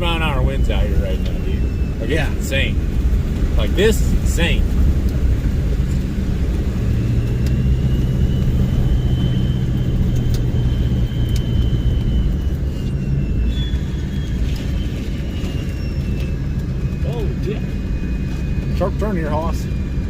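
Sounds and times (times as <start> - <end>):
faint high whine: 0.0 - 20.0
pickup truck engine driving: 0.0 - 20.0.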